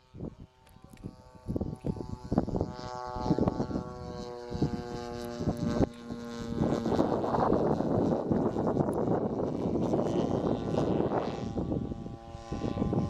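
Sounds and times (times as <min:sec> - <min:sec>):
propeller airplane engine: 0:00.0 - 0:13.0
wind gusts on microphone: 0:00.0 - 0:13.0.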